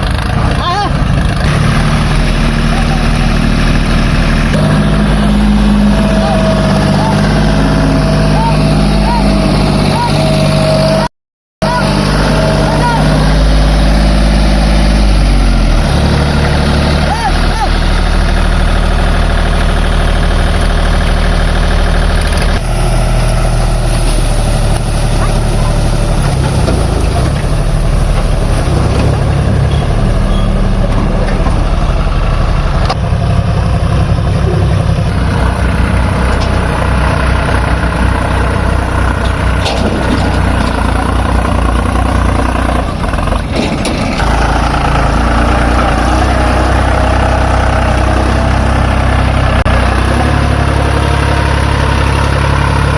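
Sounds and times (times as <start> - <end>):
diesel engines idling: 0.0 - 52.9.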